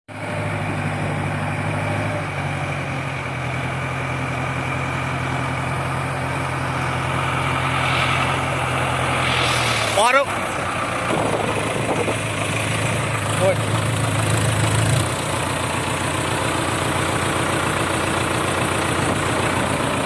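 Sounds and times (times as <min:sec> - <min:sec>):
tractor diesel engine running: 0:00.1 - 0:20.0.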